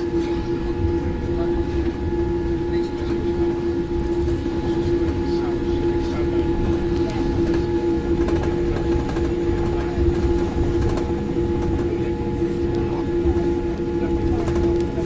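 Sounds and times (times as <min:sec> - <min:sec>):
aircraft cabin hum: 0:00.0 - 0:15.0.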